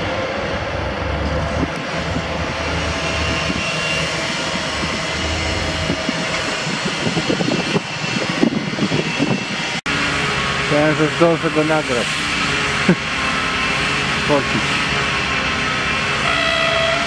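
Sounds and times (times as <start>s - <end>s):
electric locomotive running: 0.0s - 17.0s.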